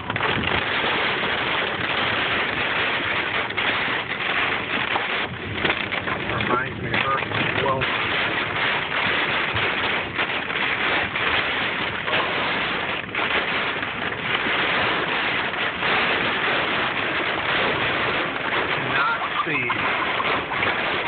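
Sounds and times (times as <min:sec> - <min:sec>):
hail and rain on car roof: 0:00.0 - 0:21.0.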